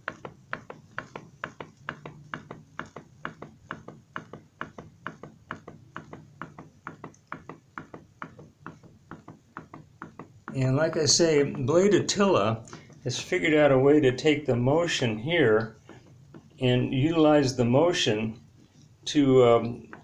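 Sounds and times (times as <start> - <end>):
pop-pop boat engine popping: 0.0 - 18.5, 19.1 - 20.0.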